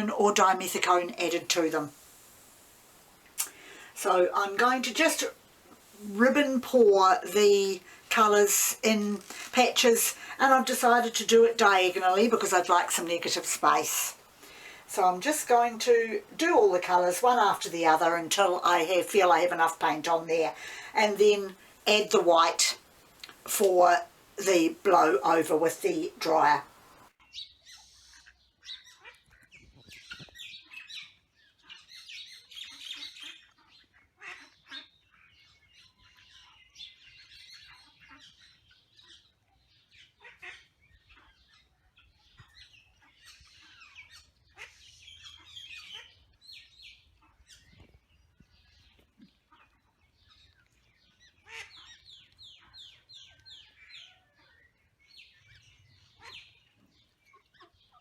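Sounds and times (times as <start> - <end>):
birds chirping: 0.0 - 1.9, 3.2 - 58.0.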